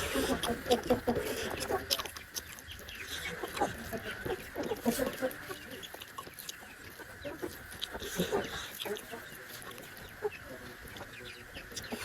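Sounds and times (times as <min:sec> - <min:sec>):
wet chewing and slurping: 0:00.0 - 0:10.0.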